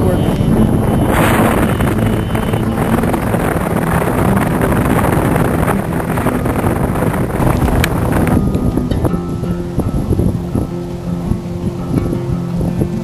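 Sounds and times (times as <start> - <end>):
blizzard wind blowing on microphone: 0.0 - 13.0.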